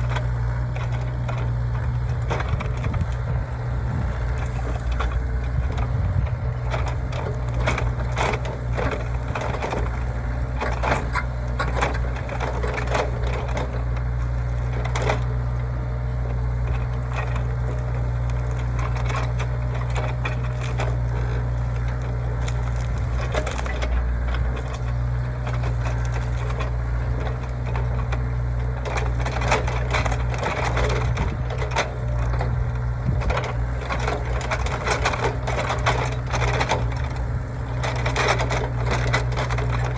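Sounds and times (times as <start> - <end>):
excavator diesel engine running: 0.0 - 39.9
wood splintering and cracking: 4.4 - 39.9.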